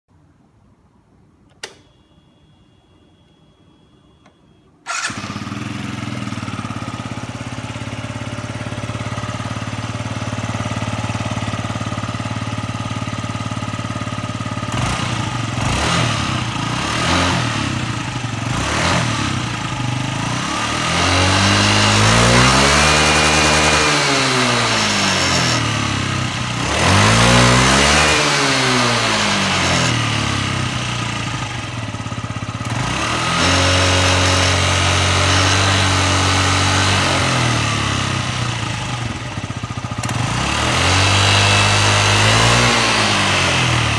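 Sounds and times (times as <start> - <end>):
scooter engine starting and revving: 4.2 - 43.9.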